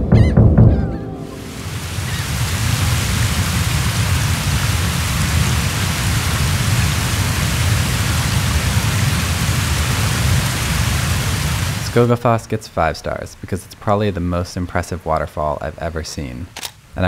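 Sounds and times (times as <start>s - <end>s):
waterfall rushing: 1.0s - 16.0s.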